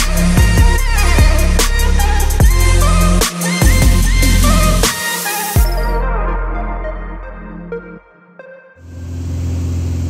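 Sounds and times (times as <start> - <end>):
electronic music: 0.0 - 9.0.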